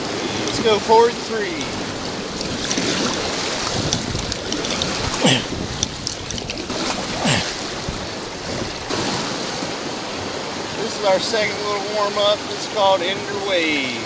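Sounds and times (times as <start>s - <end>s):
rushing whitewater: 0.0s - 14.0s
water splashes: 0.0s - 14.0s.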